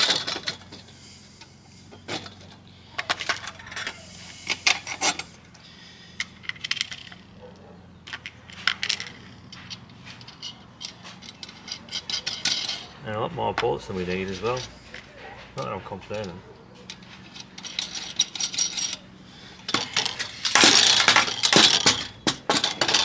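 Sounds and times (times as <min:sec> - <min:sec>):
steel nuts and bolts clinking: 0:00.0 - 0:15.0, 0:15.6 - 0:23.0.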